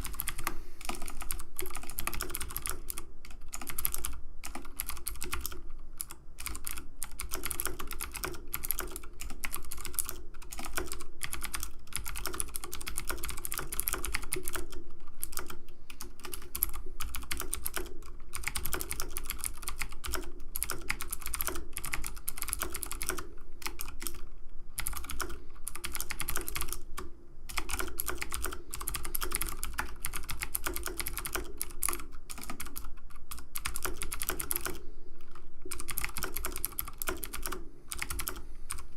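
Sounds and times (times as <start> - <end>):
keyboard keys clicking: 0.0 - 24.2, 24.8 - 38.8
steady low hum: 0.0 - 38.9.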